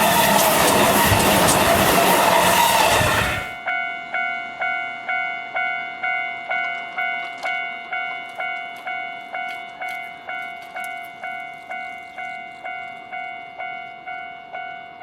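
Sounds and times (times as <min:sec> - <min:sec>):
level crossing alarm bell: 0:00.0 - 0:15.0.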